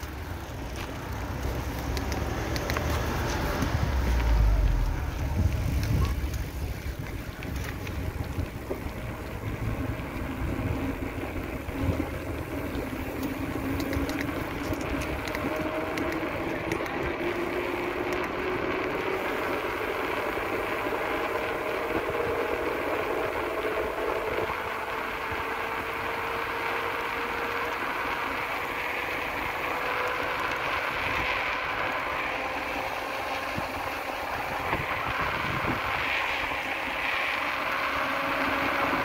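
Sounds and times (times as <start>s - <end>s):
faint rising whine: 0.0s - 39.0s
passing vehicle rumble: 0.0s - 39.0s
wheels rolling on asphalt: 0.0s - 39.0s
wind noise on microphone: 0.0s - 39.0s.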